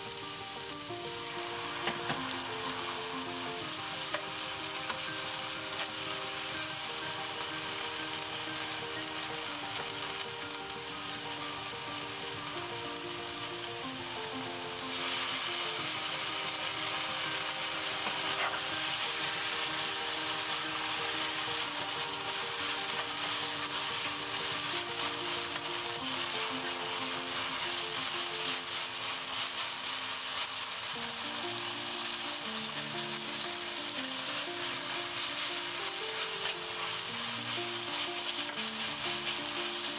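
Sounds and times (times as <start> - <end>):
gentle background music: 0.0 - 39.9
oil sizzling in a frying pan: 0.0 - 39.9.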